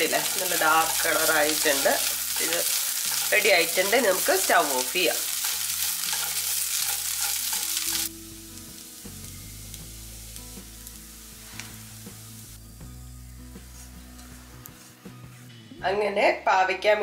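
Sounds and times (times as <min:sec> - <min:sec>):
stir fry sizzling in pan: 0:00.0 - 0:15.2.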